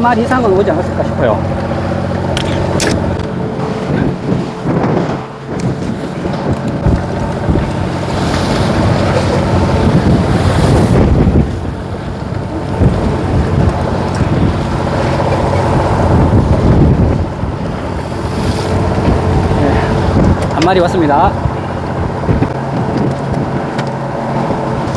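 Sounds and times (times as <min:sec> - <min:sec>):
boat engine running: 0:00.0 - 0:24.9
wind buffeting microphone: 0:00.0 - 0:24.9.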